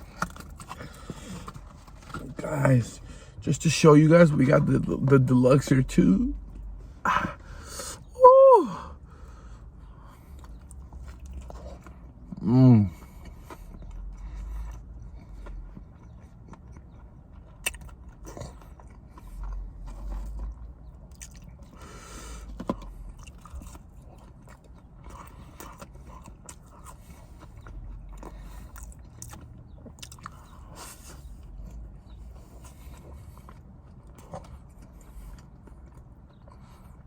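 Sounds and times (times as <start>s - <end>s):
man chewing food: 0.0s - 4.0s, 4.6s - 8.1s, 8.9s - 37.0s.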